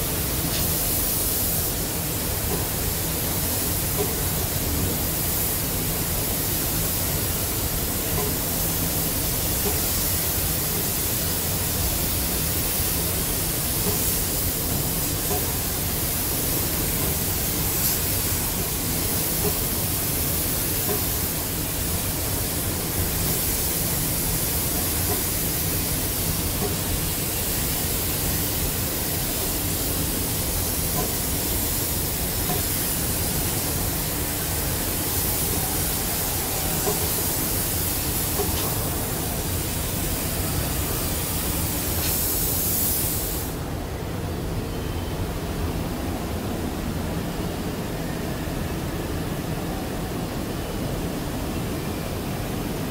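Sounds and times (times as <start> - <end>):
spray gun hissing: 0.0 - 43.6.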